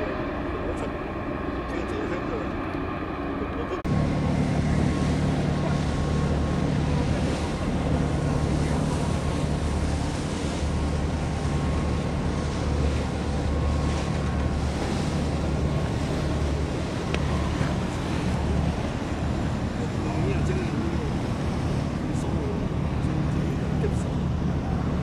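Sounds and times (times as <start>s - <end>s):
ship engines rumbling: 0.0s - 25.0s.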